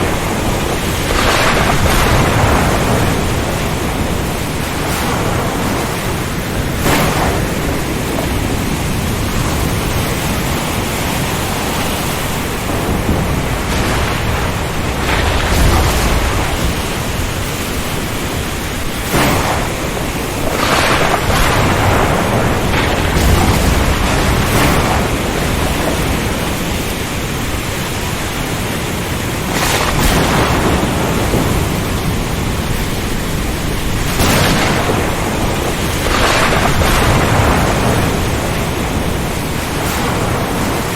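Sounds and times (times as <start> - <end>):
rough water: 0.0 - 40.9
strong wind: 0.0 - 40.9.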